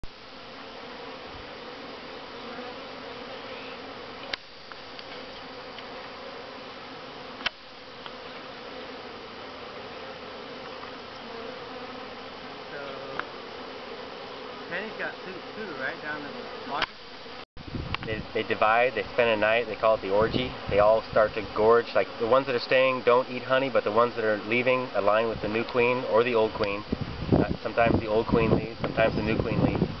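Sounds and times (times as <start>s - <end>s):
bee swarm buzzing: 0.0s - 30.0s.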